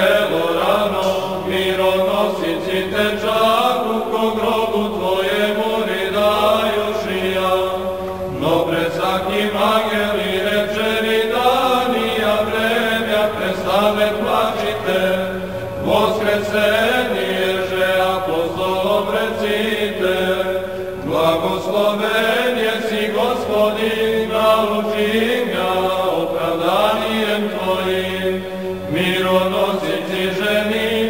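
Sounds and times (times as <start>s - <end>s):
voices chanting: 0.0s - 31.0s.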